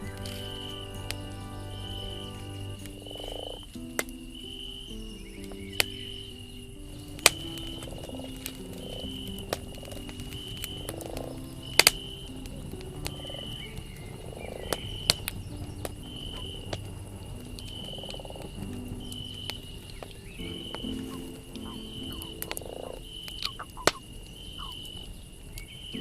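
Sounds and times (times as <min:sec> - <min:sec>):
low croaking calls: 0:00.0 - 0:03.8, 0:04.4 - 0:26.0
campfire crackling and popping: 0:00.0 - 0:26.0.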